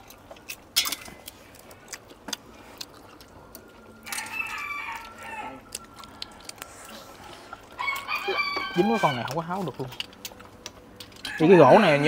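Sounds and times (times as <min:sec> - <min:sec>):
snail shells and utensils clinking: 0:00.0 - 0:06.8, 0:07.8 - 0:12.0.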